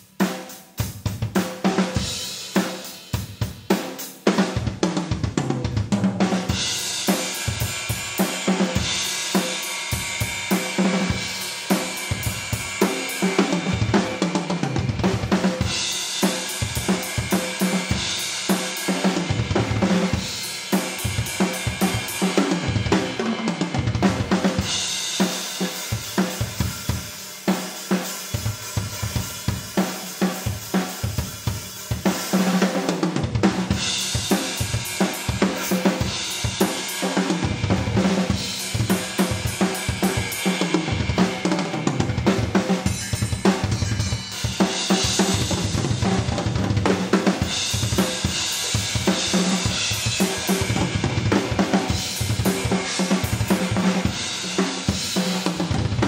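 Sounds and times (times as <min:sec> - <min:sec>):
cymbals and hi-hat crashing: 0:00.0 - 0:04.4, 0:06.3 - 0:55.8
drums played: 0:00.0 - 0:56.0.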